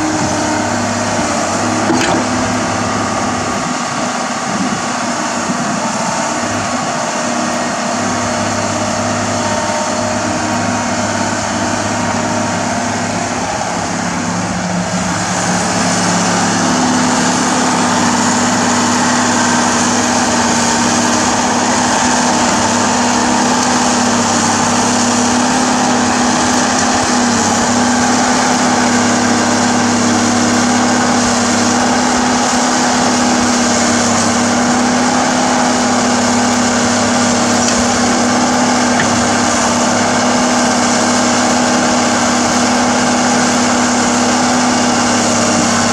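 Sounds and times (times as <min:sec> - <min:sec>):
excavator diesel engine droning: 0:00.0 - 0:45.9.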